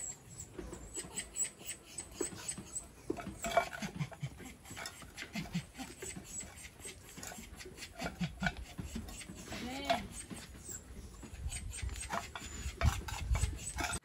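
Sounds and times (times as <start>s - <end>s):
dog sniffing and snuffling: 0.0s - 14.0s.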